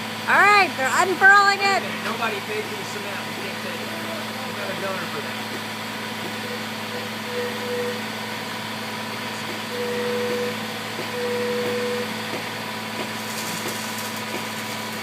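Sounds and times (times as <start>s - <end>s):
truck engines droning: 0.0s - 15.0s.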